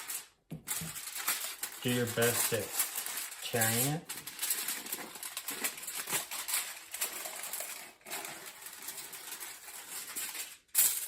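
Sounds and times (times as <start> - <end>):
aluminum foil tearing and crinkling: 0.0 - 11.0.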